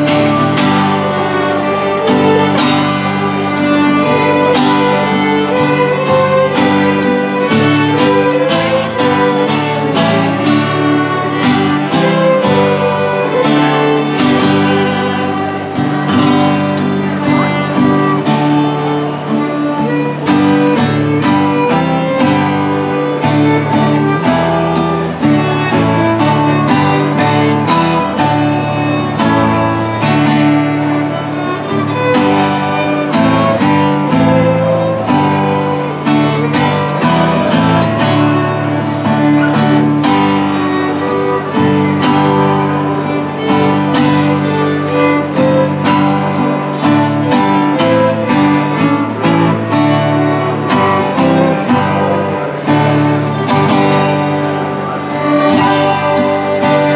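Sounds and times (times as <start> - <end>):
fiddles playing a tune: 0.0 - 56.9
strummed acoustic guitar: 0.0 - 56.9.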